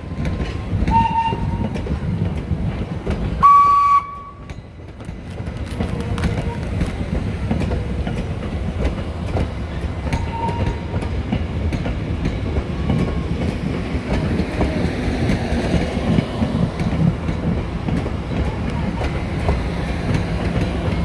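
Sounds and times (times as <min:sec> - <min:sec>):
train wheels rumbling on rails: 0:00.0 - 0:21.0
wheels clicking over rail joints: 0:00.0 - 0:21.0.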